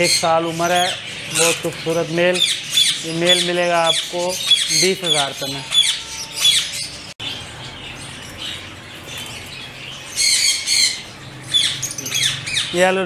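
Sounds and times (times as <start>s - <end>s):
parakeets squawking: 0.0s - 13.0s.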